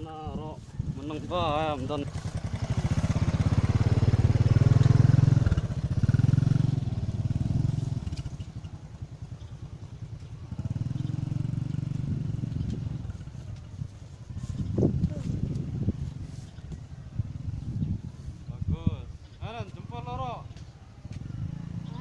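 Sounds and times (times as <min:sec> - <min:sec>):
small motorcycle engine passing: 0:00.8 - 0:18.4, 0:20.1 - 0:22.0.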